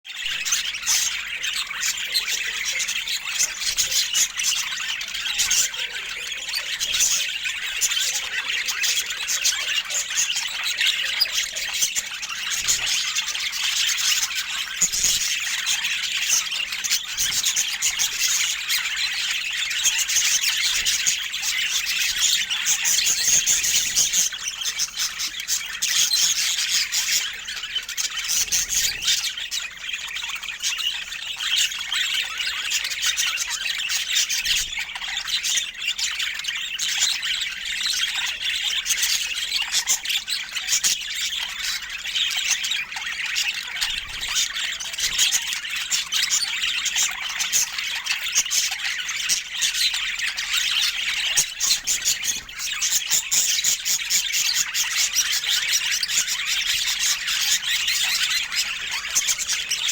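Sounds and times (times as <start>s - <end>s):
budgerigars chattering: 0.1s - 59.9s.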